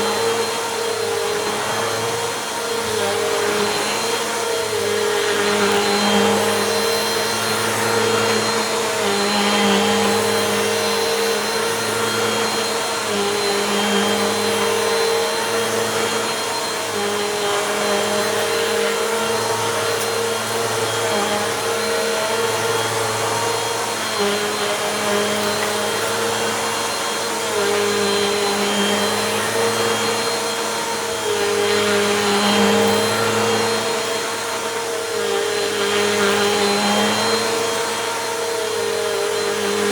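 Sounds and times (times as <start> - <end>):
vacuum cleaner running on a rug: 0.0 - 39.9.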